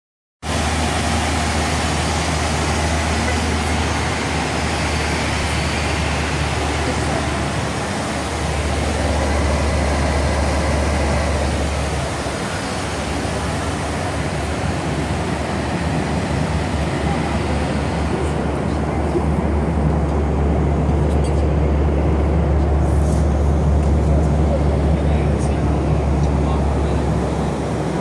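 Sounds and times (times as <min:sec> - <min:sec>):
jet cabin engine and airflow rush: 0:00.4 - 0:28.0.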